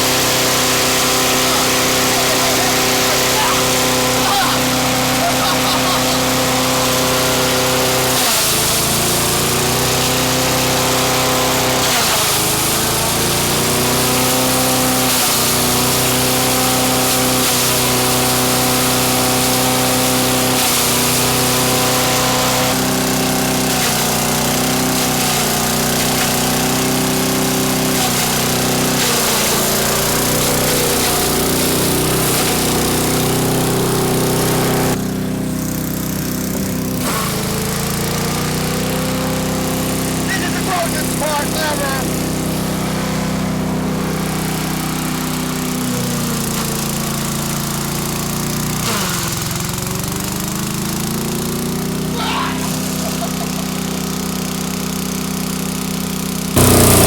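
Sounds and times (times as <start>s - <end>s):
shredding noise: 0.0s - 57.0s
small gas engine running: 0.0s - 57.0s.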